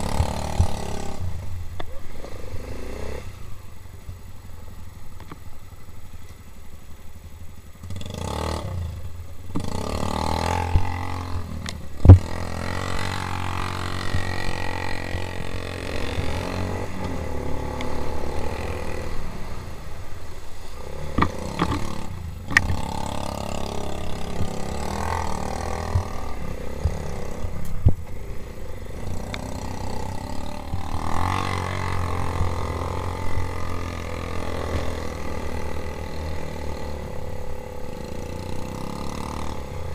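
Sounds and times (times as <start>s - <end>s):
quad bike engine revving: 0.0s - 3.7s, 7.8s - 39.9s.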